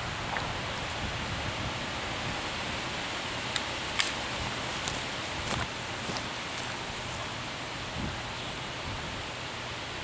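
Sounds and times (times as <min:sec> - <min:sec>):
outdoor ambience hiss: 0:00.0 - 0:10.0.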